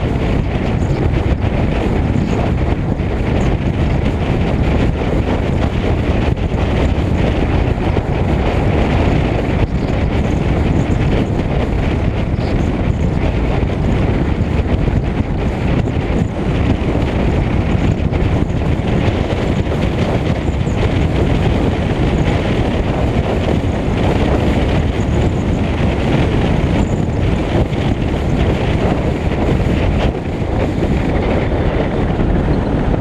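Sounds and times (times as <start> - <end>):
car driving noise: 0.0 - 33.0
wind buffeting microphone: 0.0 - 33.0.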